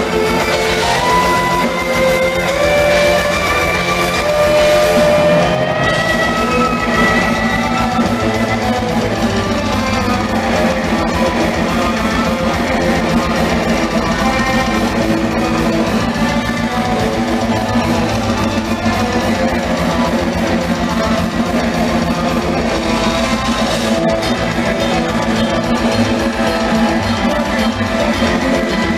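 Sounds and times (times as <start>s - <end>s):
distorted electric guitars: 0.0s - 28.9s
fast dense drumming: 0.0s - 28.9s
heavy metal band playing live: 0.0s - 28.9s.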